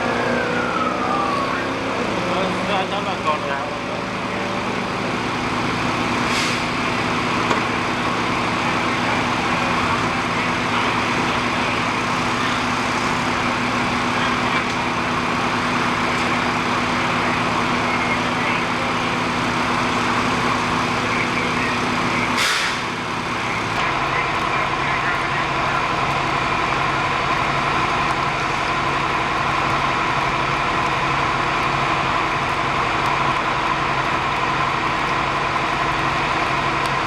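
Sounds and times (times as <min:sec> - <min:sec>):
heavy vehicle engine idling: 0:00.0 - 0:37.0.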